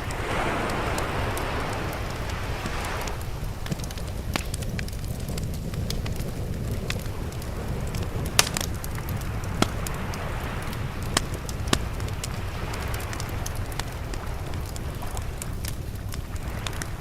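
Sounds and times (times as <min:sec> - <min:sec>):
fire crackling and popping: 0:00.0 - 0:17.0
sea waves rumbling: 0:00.0 - 0:17.0.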